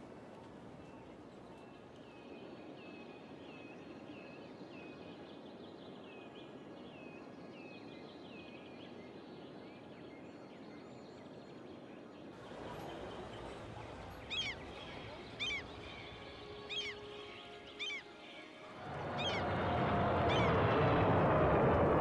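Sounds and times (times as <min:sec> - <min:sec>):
outdoor noise haze: 0:00.0 - 0:22.0.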